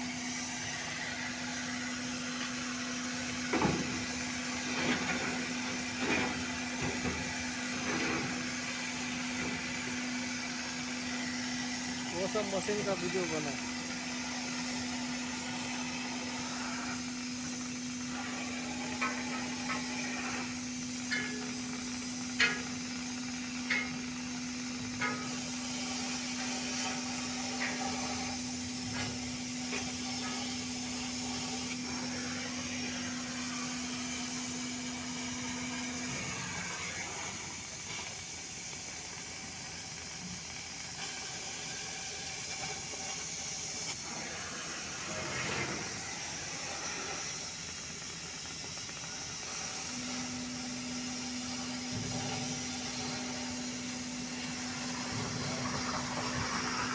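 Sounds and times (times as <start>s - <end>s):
gas cutting torch hissing: 0.0s - 56.9s.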